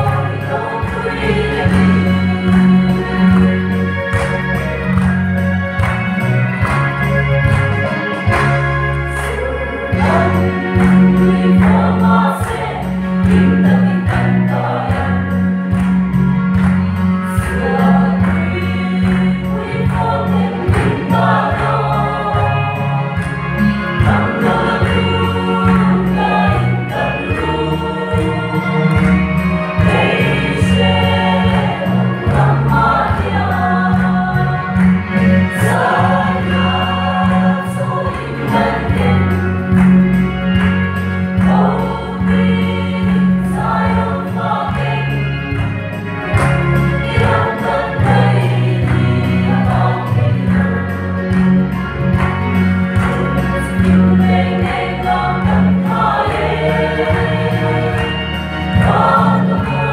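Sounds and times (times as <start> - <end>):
choir singing a hymn: 0.0 - 5.2, 7.5 - 59.9.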